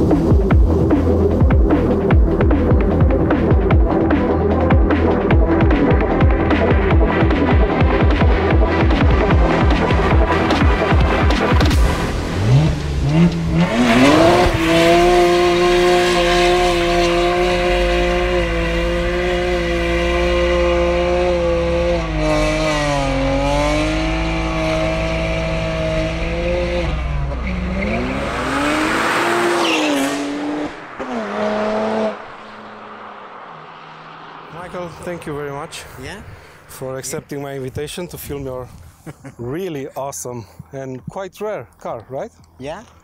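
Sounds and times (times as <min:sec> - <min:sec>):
car engine revving: 0:00.0 - 0:38.4.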